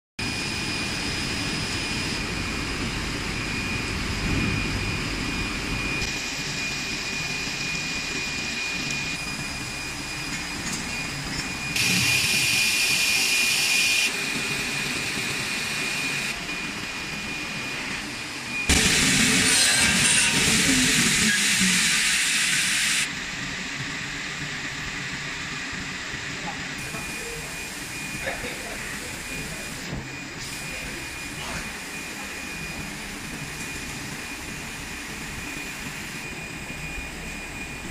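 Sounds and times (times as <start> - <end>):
extrusion machinery hiss and whine: 0.2 - 37.9.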